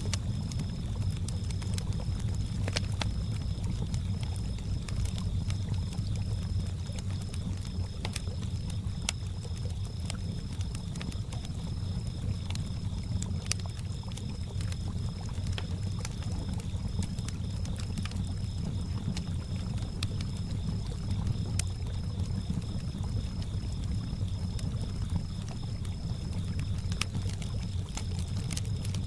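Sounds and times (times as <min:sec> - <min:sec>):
campfire crackling and popping: 0:00.0 - 0:29.0
crickets chirping: 0:00.0 - 0:29.0.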